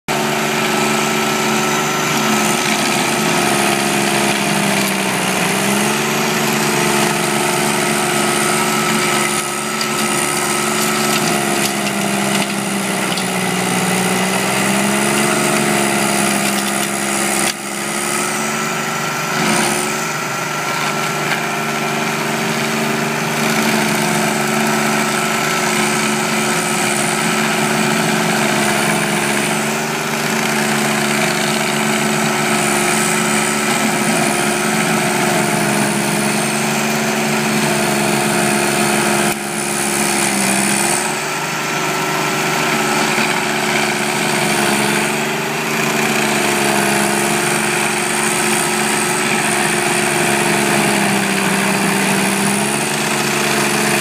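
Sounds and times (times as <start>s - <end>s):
stump grinder engine running: 0.0s - 54.0s
cutter wheel grinding wood: 0.1s - 54.0s.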